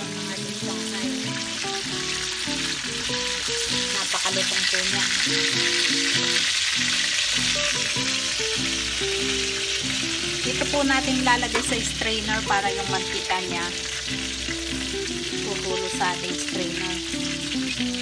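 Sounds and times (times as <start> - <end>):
background music: 0.0 - 18.0
spring rolls sizzling in oil: 0.0 - 18.0.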